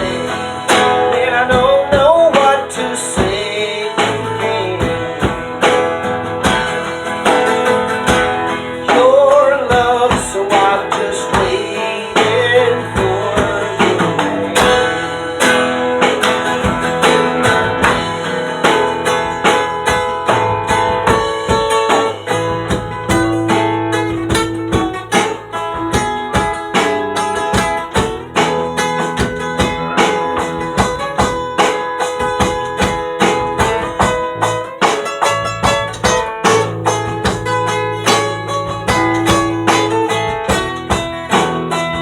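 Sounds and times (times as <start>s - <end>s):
bass: 0.0s - 42.0s
drums: 0.0s - 42.0s
strummed guitar: 0.0s - 42.0s.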